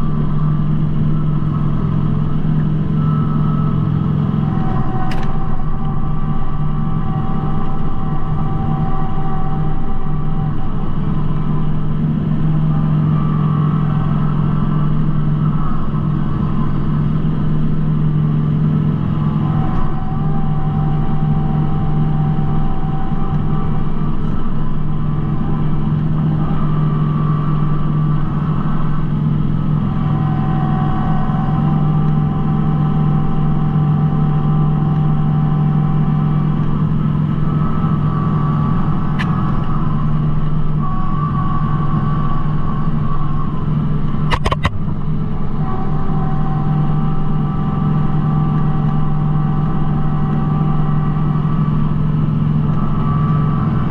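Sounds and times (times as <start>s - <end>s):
high whine: 0.0s - 53.9s
tractor diesel engine running: 0.0s - 53.9s.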